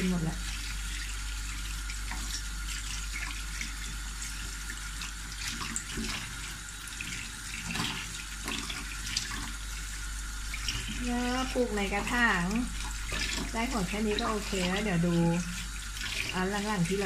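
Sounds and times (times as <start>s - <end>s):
small water splashes: 0.0s - 17.0s
tap water running into a steel sink: 0.0s - 17.0s.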